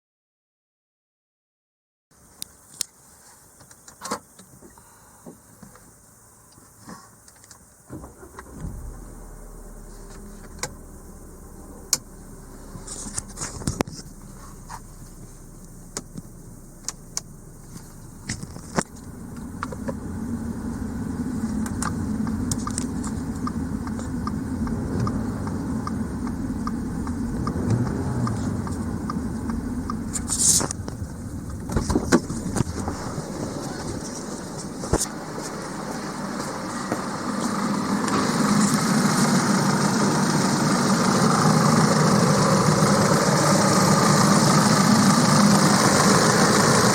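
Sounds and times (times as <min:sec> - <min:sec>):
car engine running: 0:07.9 - 0:46.9
fast light engine ticking: 0:08.4 - 0:46.9.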